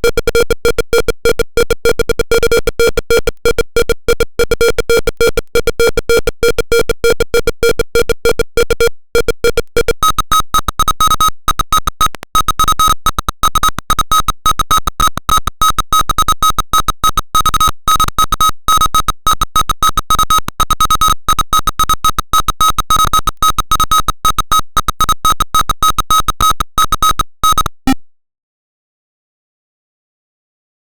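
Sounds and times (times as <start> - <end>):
stuttering electronic buzzer tone: 0.0 - 28.0.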